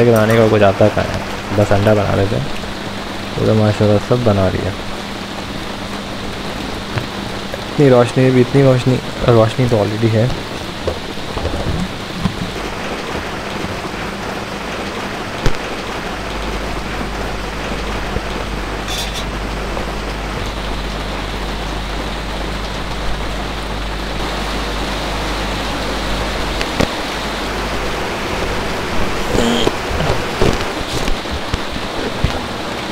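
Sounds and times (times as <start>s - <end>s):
heavy rain on a vehicle: 0.0s - 32.9s
low steady hum: 0.0s - 32.9s.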